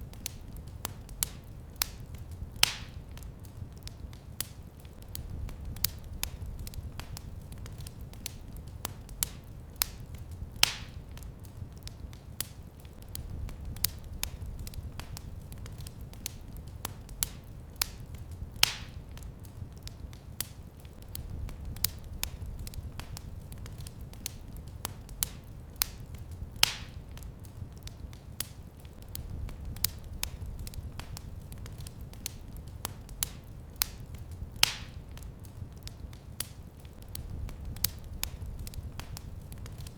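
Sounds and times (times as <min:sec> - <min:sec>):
wood fire crackling: 0:00.0 - 0:39.9
loud fire pops: 0:00.1 - 0:39.9.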